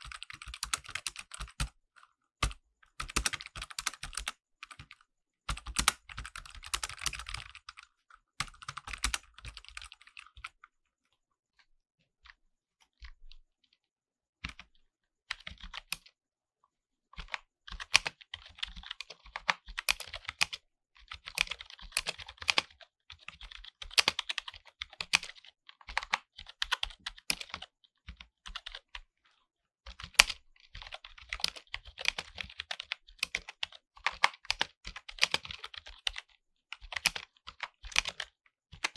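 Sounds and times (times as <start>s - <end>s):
mechanical keyboard typing: 0.0s - 10.6s, 15.3s - 16.1s, 17.2s - 29.0s, 29.9s - 38.9s.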